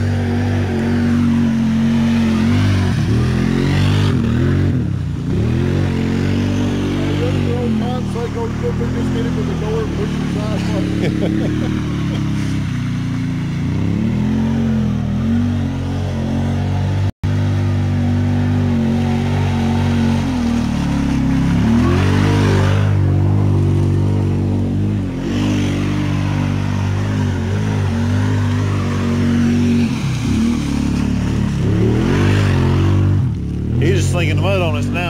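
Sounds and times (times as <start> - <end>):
utv engine revving: 0.0 - 35.0.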